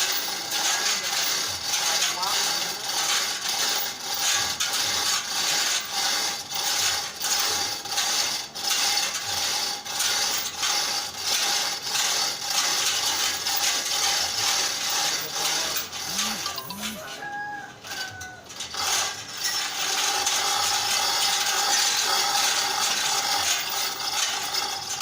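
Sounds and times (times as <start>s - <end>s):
ratchet clicking: 0.0s - 17.0s, 18.6s - 25.0s
chain clattering through hoist block: 0.0s - 25.0s.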